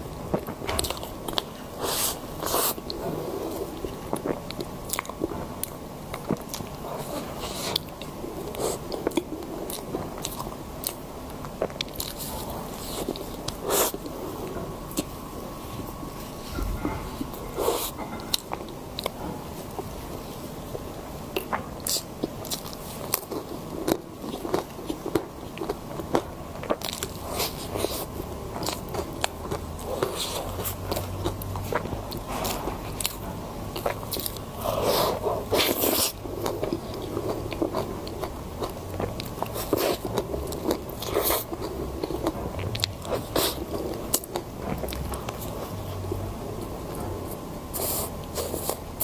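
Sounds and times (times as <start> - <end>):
crunchy food chewing: 0.2 - 46.0.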